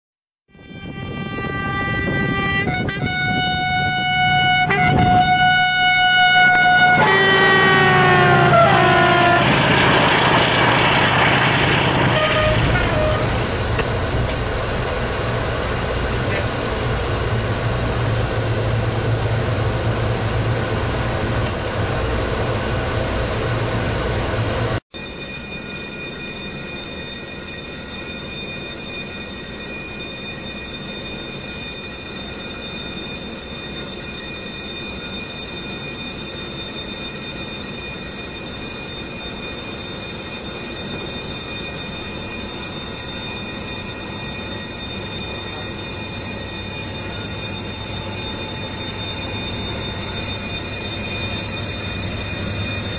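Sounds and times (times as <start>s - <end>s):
high steady whining tones: 0.5s - 52.9s
rail yard hum: 0.5s - 52.9s
locomotive cab rumble: 0.6s - 24.8s, 30.2s - 52.9s.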